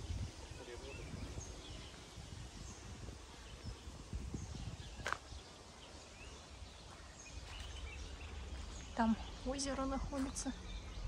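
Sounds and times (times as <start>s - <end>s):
songbird chirps: 0.0s - 11.0s.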